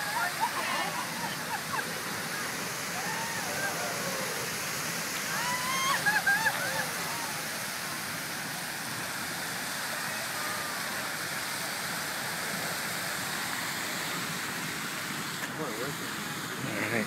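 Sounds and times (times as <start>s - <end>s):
geyser water jetting and falling: 0.0s - 17.0s
hissing steam: 0.0s - 17.0s.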